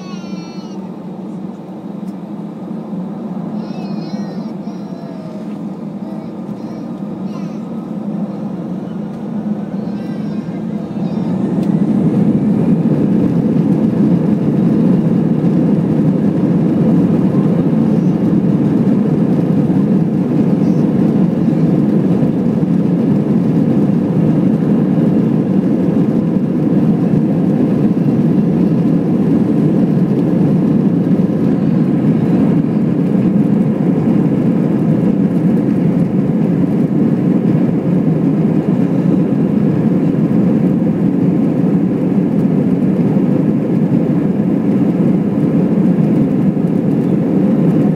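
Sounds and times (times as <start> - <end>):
jet engine and airflow rush: 0.0 - 47.9.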